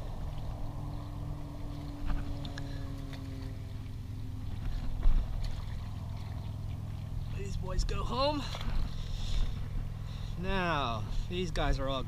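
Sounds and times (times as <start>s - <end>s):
low rumble: 0.0s - 11.2s
passing engine hum: 0.0s - 12.0s.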